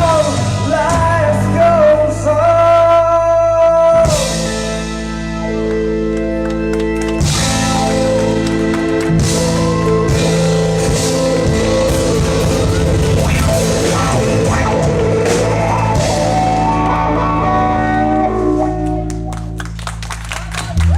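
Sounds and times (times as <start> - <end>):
lead guitar line: 0.0 - 20.0
live rock band playing: 0.0 - 20.9.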